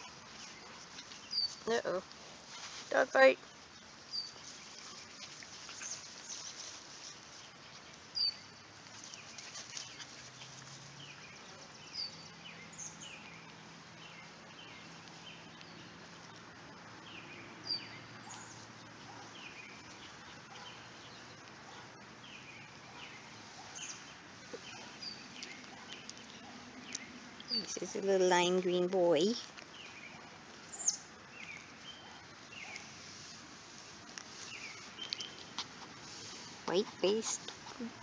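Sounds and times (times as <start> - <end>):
birds chirping: 0.0 - 2.1, 2.9 - 38.0.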